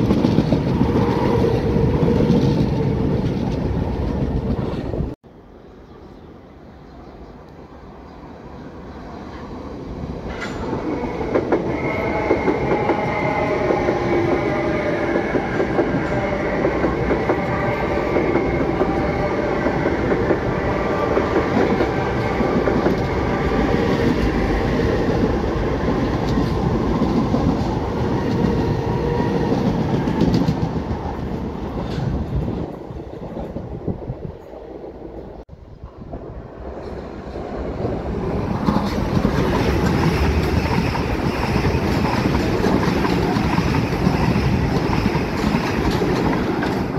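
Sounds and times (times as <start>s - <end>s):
train whine: 0.0s - 46.9s.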